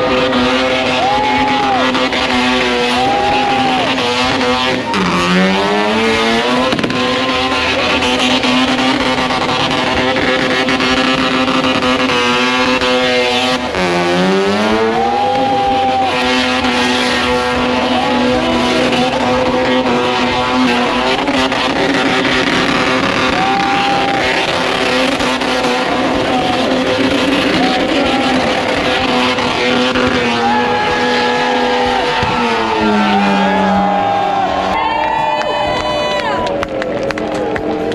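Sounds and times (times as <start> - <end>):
race engine at high revs: 0.0 - 37.9.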